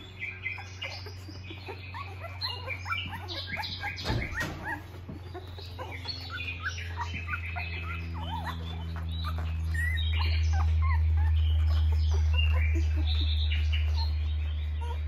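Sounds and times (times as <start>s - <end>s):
puppies squeaking: 0.0s - 15.0s
steady low hum: 0.0s - 15.0s.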